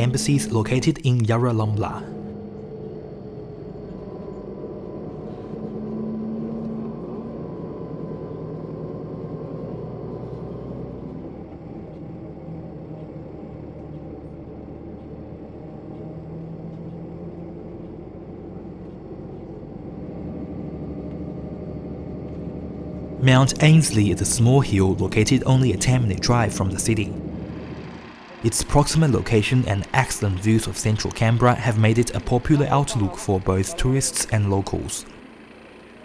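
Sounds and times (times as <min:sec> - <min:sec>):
coach engine: 0:00.0 - 0:36.0
road noise: 0:00.0 - 0:36.0.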